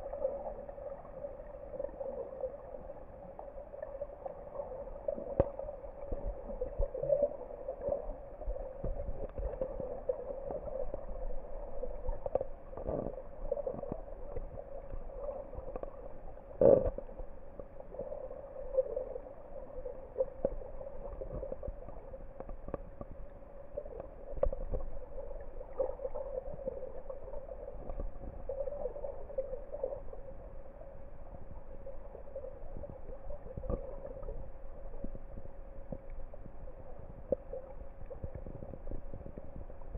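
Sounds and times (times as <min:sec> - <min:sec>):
muffled underwater wash: 0:00.0 - 0:39.9
underwater drone: 0:00.0 - 0:39.9.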